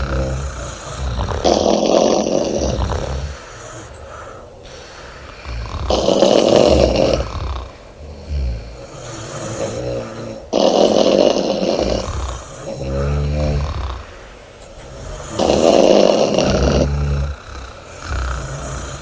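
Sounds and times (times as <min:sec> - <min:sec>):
woman snoring loudly: 0:00.0 - 0:14.1, 0:14.8 - 0:19.0
soft breathing: 0:00.0 - 0:19.0.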